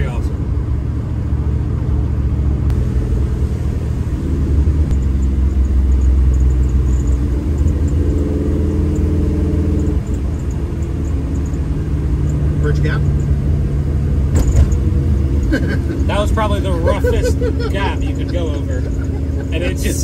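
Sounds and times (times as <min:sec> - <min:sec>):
car engine pulling under throttle: 0:00.0 - 0:20.0
road noise: 0:00.0 - 0:20.0.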